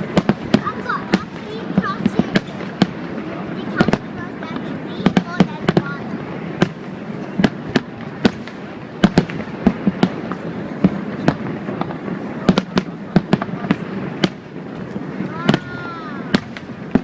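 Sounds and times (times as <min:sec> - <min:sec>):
fireworks bangs and cracks: 0:00.0 - 0:17.0
steady background noise: 0:00.0 - 0:17.0.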